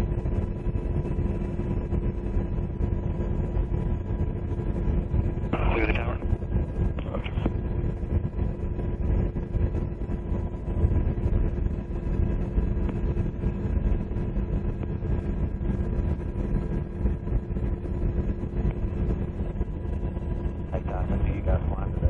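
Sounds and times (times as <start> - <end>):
faint constant whine: 0.0 - 22.0
helicopter engines and rotor drone: 0.0 - 22.0.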